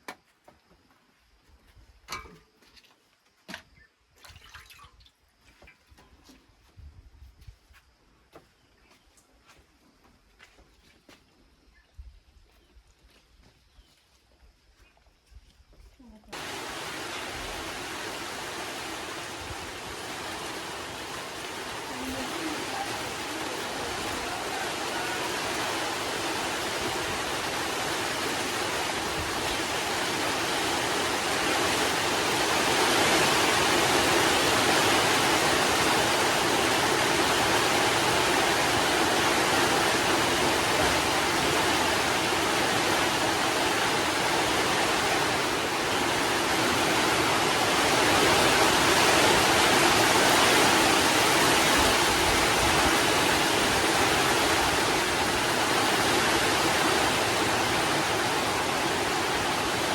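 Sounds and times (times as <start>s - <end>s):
steady rain hiss: 0.0s - 3.3s, 14.1s - 59.9s.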